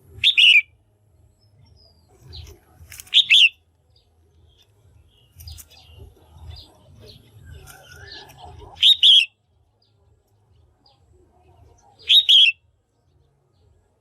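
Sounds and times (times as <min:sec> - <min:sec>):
soft bird chirps: 0:00.0 - 0:14.0.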